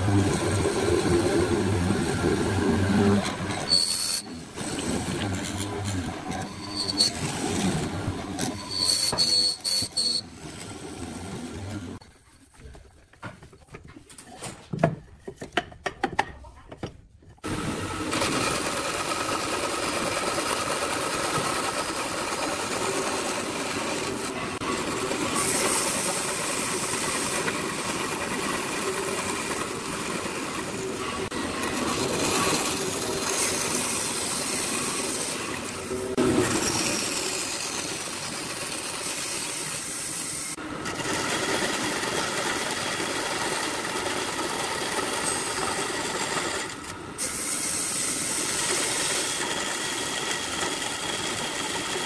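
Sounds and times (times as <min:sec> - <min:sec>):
band saw cutting wood: 0:00.0 - 0:12.0, 0:17.8 - 0:52.0.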